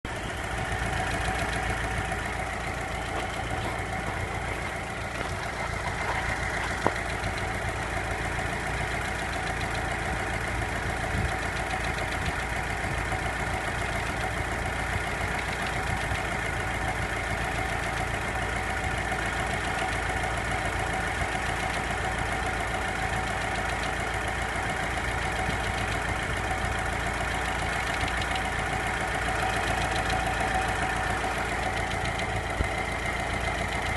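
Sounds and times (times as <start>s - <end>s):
car engine idling with knocking: 0.1s - 33.9s.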